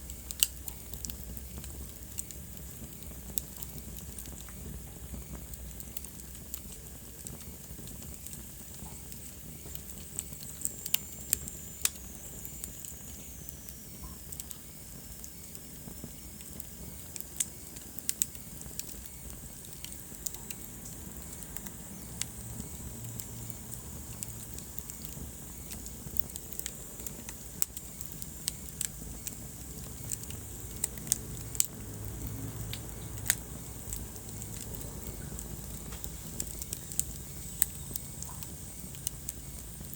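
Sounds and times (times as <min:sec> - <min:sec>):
low rumble and hiss: 0:00.0 - 0:39.9
sharp pops of fire: 0:00.0 - 0:39.9
wood fire crackling: 0:00.0 - 0:39.9.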